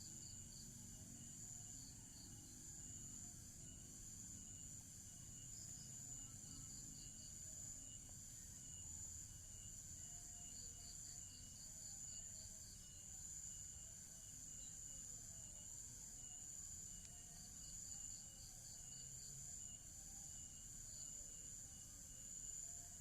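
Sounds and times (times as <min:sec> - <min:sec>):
insect drone: 0:00.0 - 0:23.0.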